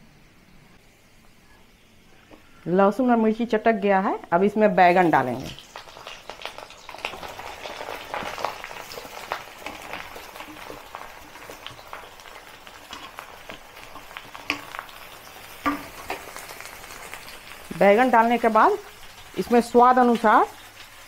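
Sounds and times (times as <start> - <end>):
eggplant sizzling in hot oil: 0.8 - 21.0.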